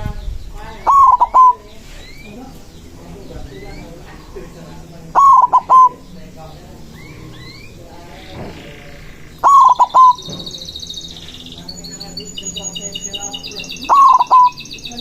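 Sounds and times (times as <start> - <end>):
small birds chirping: 0.0 - 15.0
dove cooing: 0.6 - 15.0.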